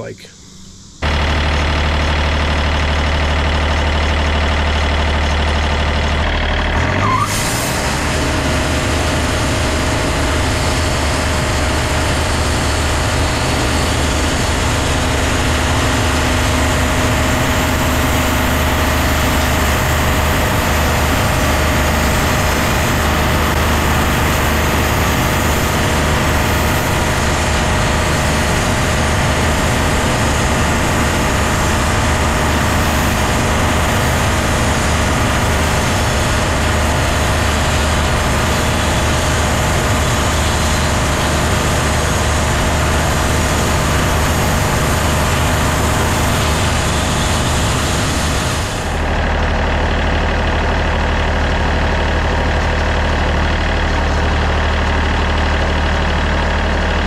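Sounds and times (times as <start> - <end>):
band sawmill engine running: 0.0 - 57.0
saw blade whine cutting log: 0.0 - 57.0.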